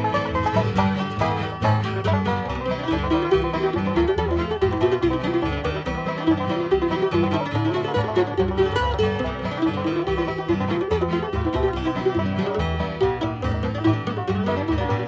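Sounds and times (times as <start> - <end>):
bluegrass band playing: 0.0 - 15.0
fast banjo picking: 0.0 - 15.0.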